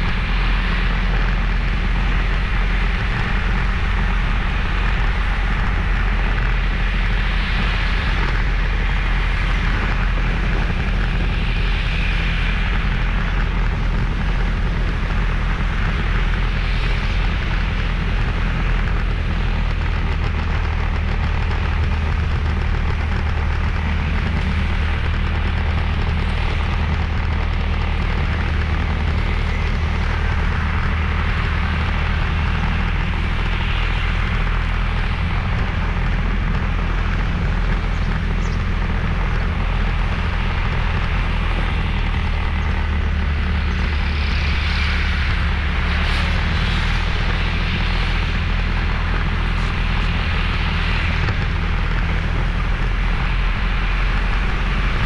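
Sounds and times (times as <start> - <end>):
low rumble and rushing noise: 0.0 - 55.0
motorbike engine running: 0.0 - 55.0.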